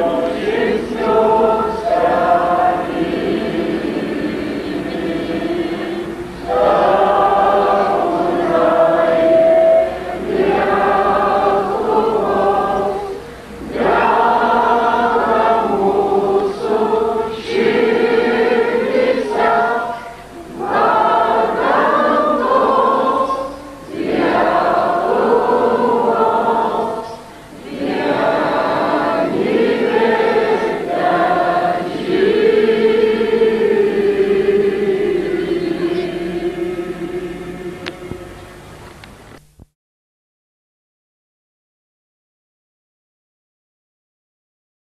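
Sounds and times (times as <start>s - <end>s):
crowd singing together: 0.0s - 39.2s.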